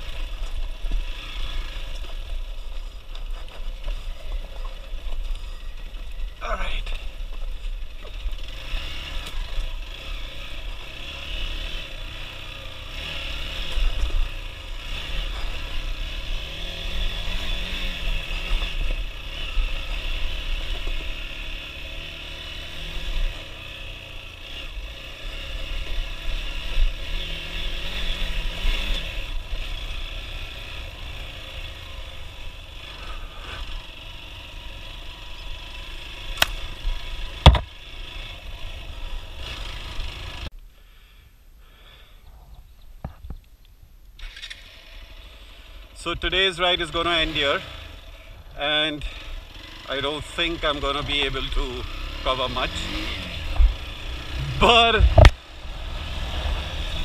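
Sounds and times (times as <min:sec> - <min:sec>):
motorcycle engine running: 0:00.0 - 0:41.1, 0:44.2 - 0:57.0.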